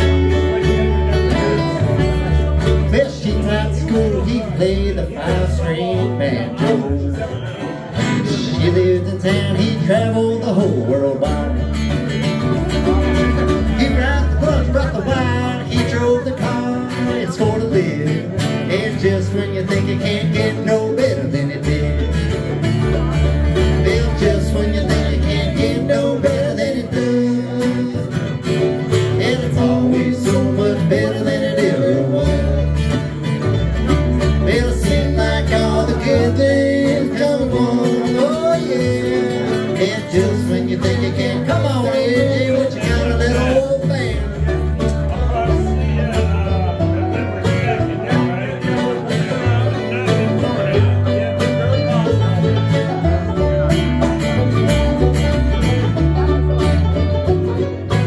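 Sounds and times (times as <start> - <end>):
acoustic guitars: 0.0 - 58.0
banjo picking: 0.0 - 58.0
mandolin: 0.0 - 58.0
plucked upright bass: 0.0 - 58.0.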